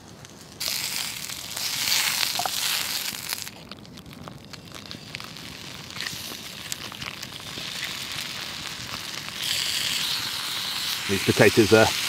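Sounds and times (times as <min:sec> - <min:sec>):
campfire crackling: 0:00.0 - 0:12.0
potato slices sizzling in a pan: 0:00.6 - 0:03.8, 0:04.4 - 0:12.0.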